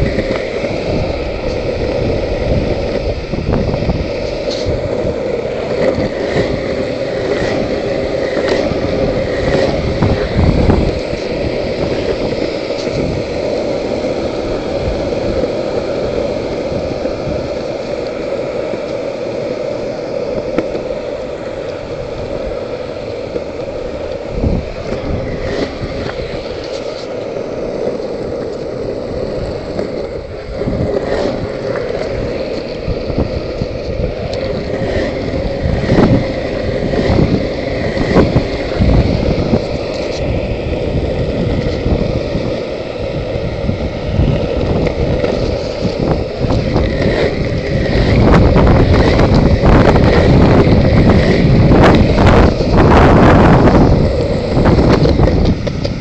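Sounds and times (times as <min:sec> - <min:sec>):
longboard wheels rolling on asphalt: 0:00.0 - 0:56.0.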